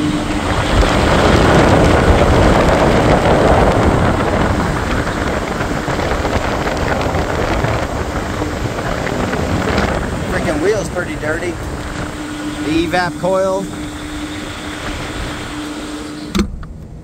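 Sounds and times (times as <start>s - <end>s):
rushing air and machinery noise: 0.0s - 17.0s.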